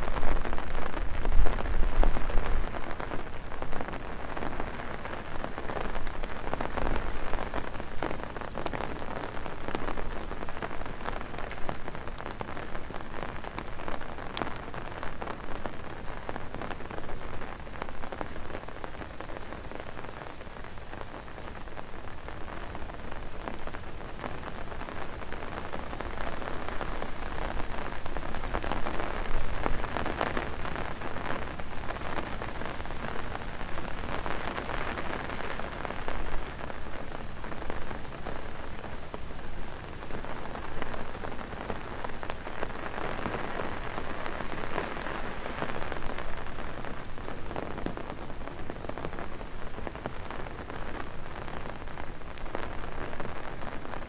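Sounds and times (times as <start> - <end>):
heavy rain on an umbrella: 0.0 - 54.0.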